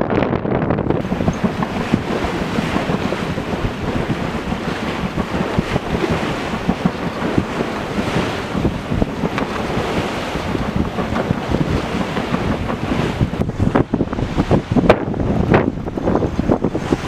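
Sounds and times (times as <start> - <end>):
wind buffeting microphone: 0.0 - 17.0
sea water rushing past boat: 0.1 - 17.0.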